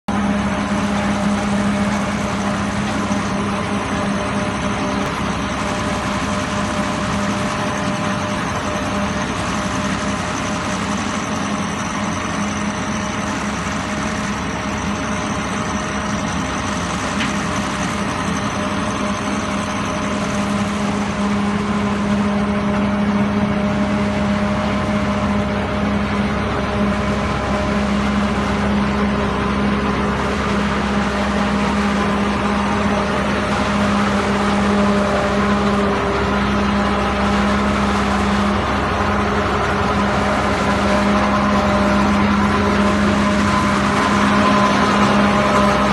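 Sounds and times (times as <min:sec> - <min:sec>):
pile driver engine humming: 0:00.1 - 0:45.9.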